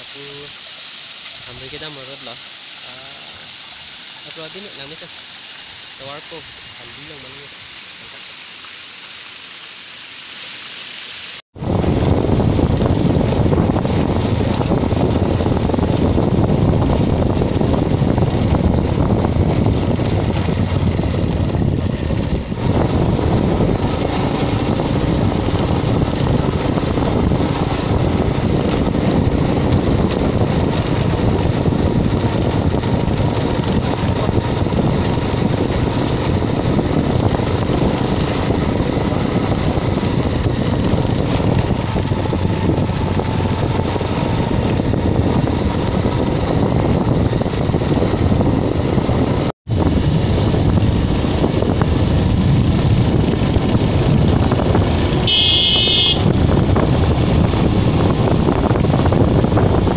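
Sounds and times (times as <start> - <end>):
motorcycle engine running: 11.6 - 59.9
wind buffeting microphone: 11.6 - 59.9.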